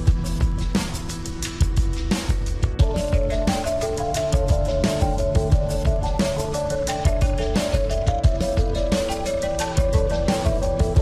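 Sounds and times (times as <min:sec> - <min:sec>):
drum beat: 0:00.0 - 0:11.0.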